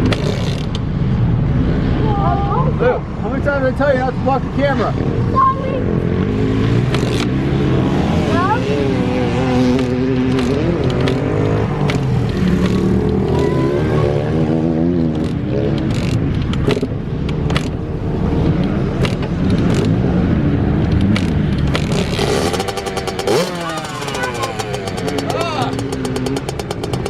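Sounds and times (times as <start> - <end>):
dirt bike engine revving: 0.0 - 0.8, 4.4 - 27.0.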